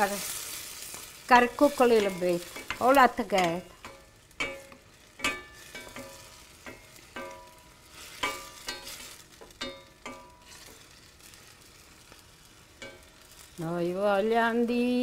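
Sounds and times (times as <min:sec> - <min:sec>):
sauce sizzling: 0:00.0 - 0:15.0
spatula scraping and knocking pan: 0:00.9 - 0:13.5.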